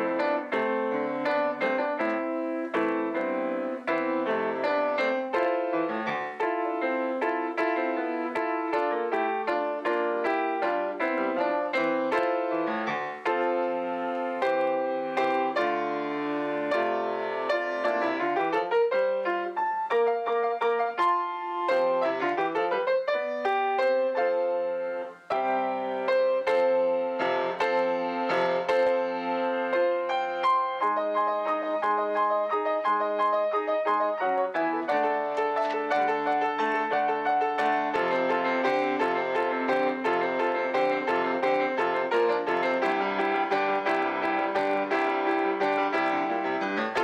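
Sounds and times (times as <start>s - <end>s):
solo piano: 0.0s - 47.0s.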